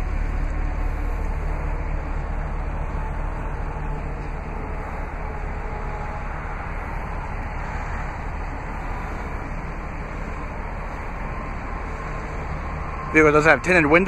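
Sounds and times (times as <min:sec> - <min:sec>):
engine idling low rumble: 0:00.0 - 0:14.0.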